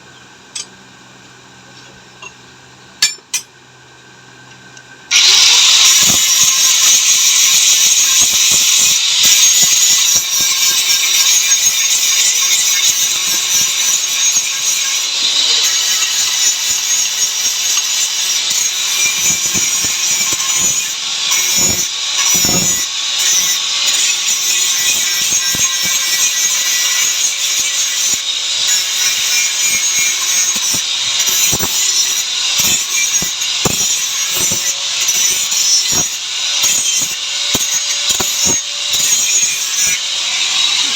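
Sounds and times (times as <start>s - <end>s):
power tool grinding metal: 5.1s - 40.9s.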